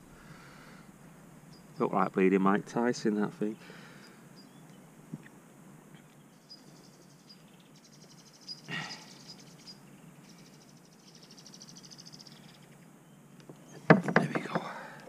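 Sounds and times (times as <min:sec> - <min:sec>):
insect chirping: 0:00.0 - 0:15.0
outdoor hiss: 0:00.0 - 0:15.0.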